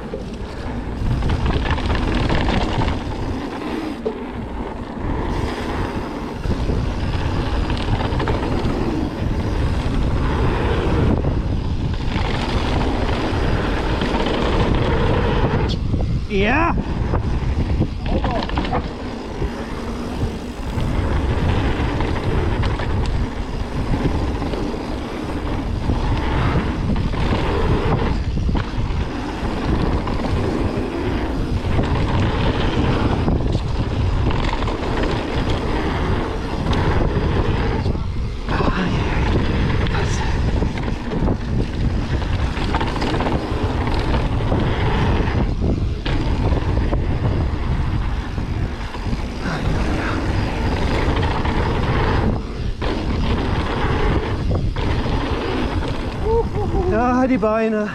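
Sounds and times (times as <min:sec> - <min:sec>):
bike tyres on dirt: 0:00.0 - 0:57.9
wind on microphone: 0:00.0 - 0:57.9.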